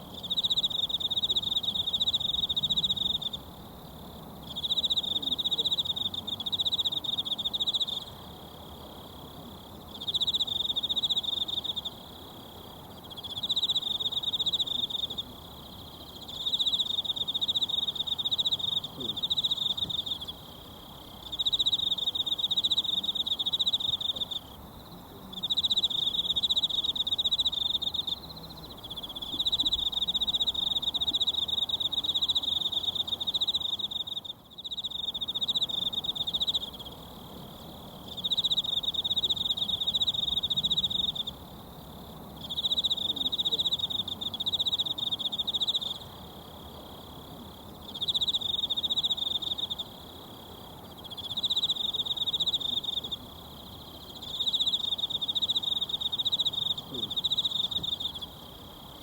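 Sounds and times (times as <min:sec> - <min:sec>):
insect trilling: 0:09.9 - 0:24.6, 0:25.3 - 0:41.4, 0:42.4 - 0:59.0.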